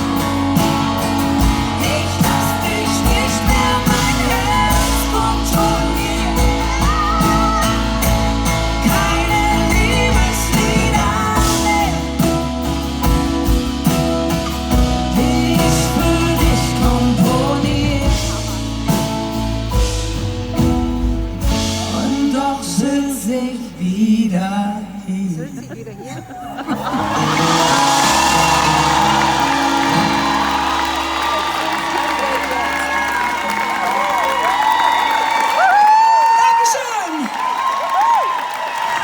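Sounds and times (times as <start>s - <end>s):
acoustic band with singing: 0.0s - 39.0s.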